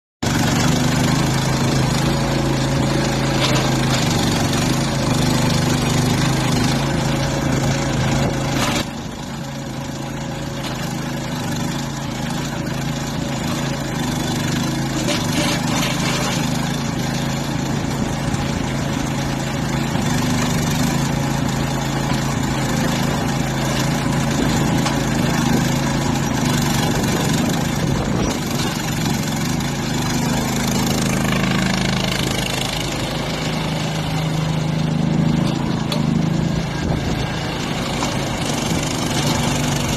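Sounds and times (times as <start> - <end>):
mini excavator engine running: 0.2 - 39.9.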